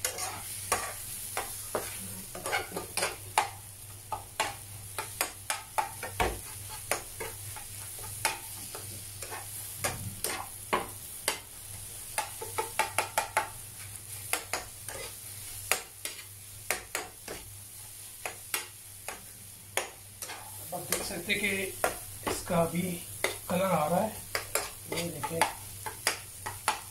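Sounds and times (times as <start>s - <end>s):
spatula scraping a pan: 0.0s - 3.5s, 4.4s - 11.4s, 13.9s - 26.8s
spatula tapping a pan: 0.0s - 11.5s, 12.1s - 17.6s, 18.2s - 23.6s, 24.2s - 26.9s
eggs sizzling in a frying pan: 0.0s - 26.9s.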